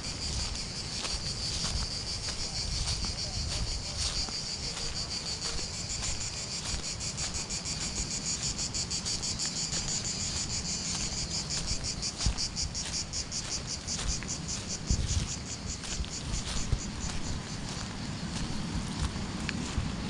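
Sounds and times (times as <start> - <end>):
cicadas buzzing: 0.0 - 20.0.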